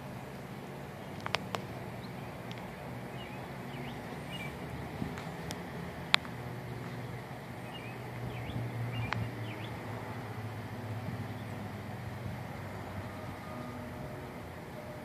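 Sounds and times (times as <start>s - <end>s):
low outdoor hum and rumble: 0.0s - 15.0s.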